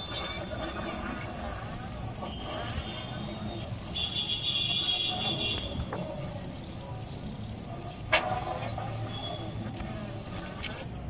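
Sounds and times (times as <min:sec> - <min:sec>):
hacksaw scraping brass: 0:00.0 - 0:11.0.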